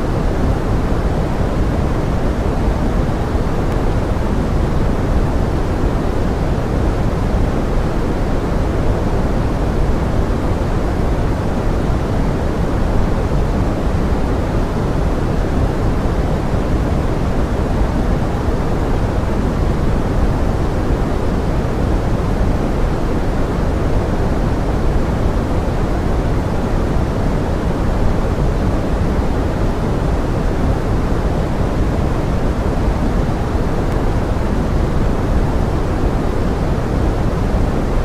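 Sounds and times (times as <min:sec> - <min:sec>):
pink noise hiss: 0:00.0 - 0:38.0.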